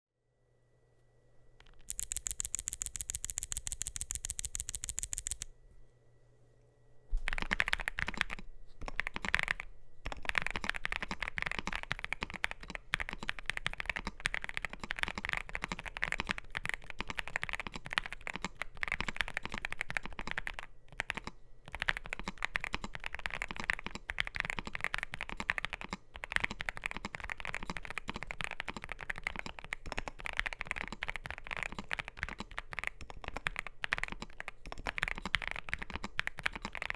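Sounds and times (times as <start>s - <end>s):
rapid high clicks: 1.6s - 5.5s, 7.3s - 36.9s
typing on mechanical keyboard: 1.6s - 5.5s, 7.2s - 36.9s.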